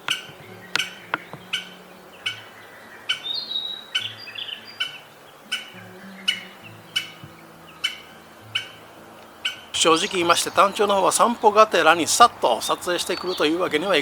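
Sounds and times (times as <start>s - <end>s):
bird warbling: 0.0s - 14.0s.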